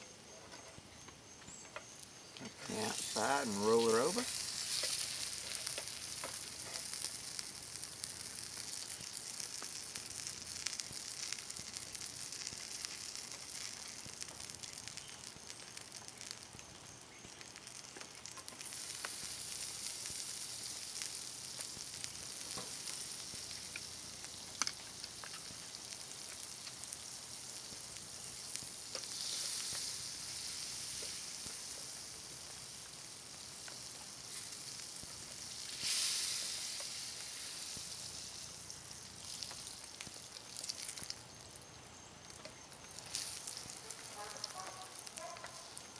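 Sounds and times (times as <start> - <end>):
butter sizzling in a skillet: 0.3 - 45.9.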